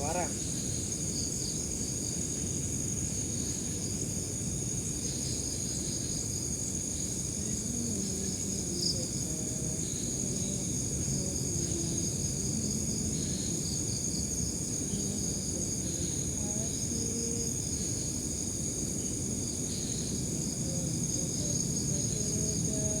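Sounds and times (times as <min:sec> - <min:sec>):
insects droning and chirping: 0:00.0 - 0:23.0.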